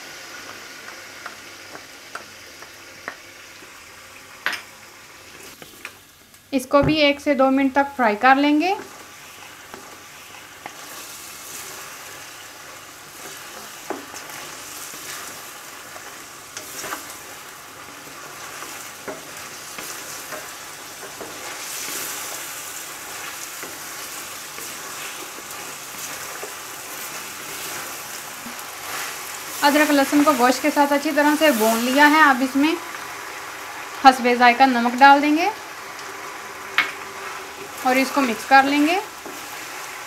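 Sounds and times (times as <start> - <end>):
meat sizzling in hot oil: 0.0 - 6.5, 7.7 - 40.0.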